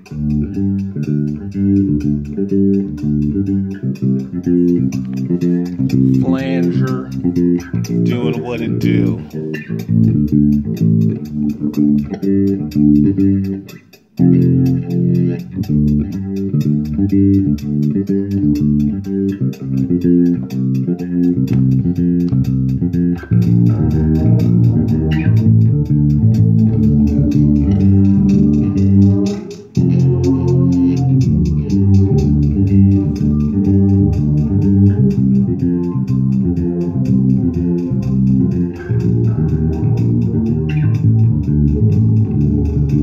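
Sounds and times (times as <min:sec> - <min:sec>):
electric bass guitar line: 0:00.0 - 0:43.0.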